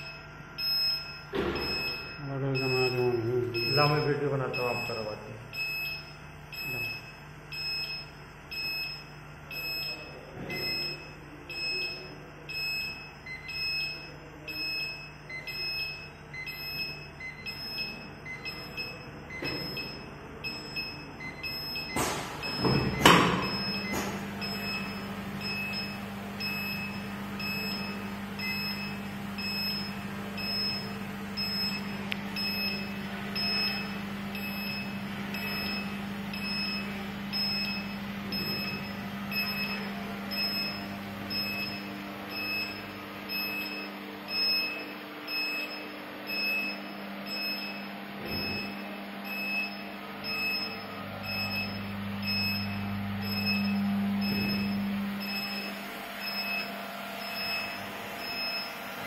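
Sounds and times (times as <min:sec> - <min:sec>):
machine buzzer beeping: 0:00.0 - 0:59.0
motor hum: 0:00.0 - 0:59.0.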